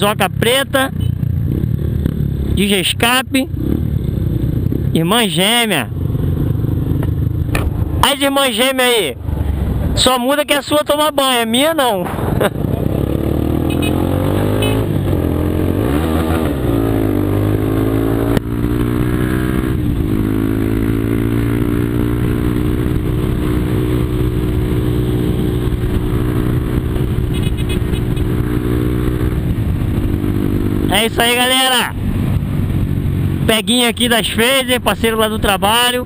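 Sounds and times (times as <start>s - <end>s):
motorcycle engine revving and idling: 0.0s - 8.1s, 12.0s - 36.0s.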